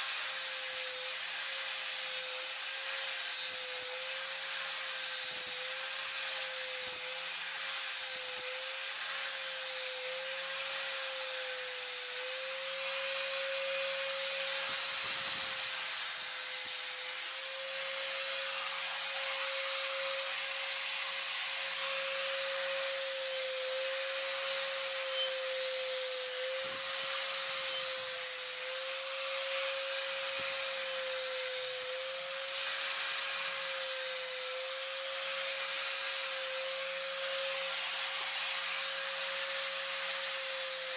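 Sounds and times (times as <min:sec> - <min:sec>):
small motor whining: 0:00.0 - 0:40.9.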